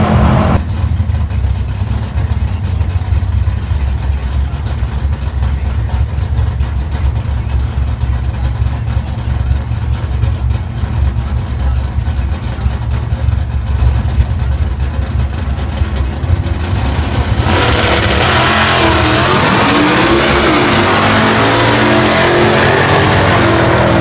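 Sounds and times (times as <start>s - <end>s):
car engines rumbling and revving: 0.0s - 24.0s.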